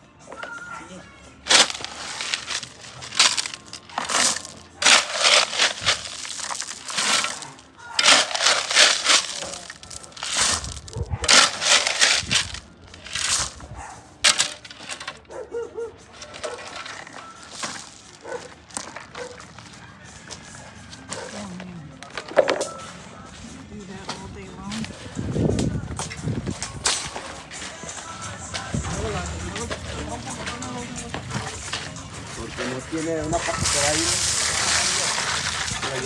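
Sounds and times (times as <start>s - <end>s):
harsh scraping and crunching: 1.4s - 36.0s.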